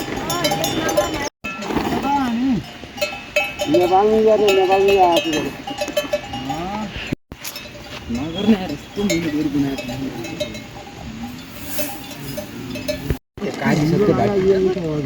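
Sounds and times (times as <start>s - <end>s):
livestock bells clinking: 0.0s - 13.2s.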